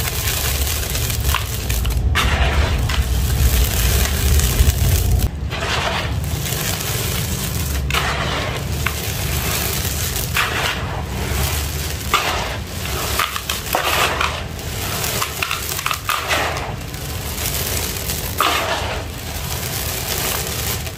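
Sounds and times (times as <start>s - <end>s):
sand pouring into plastic basin: 0.0s - 20.9s.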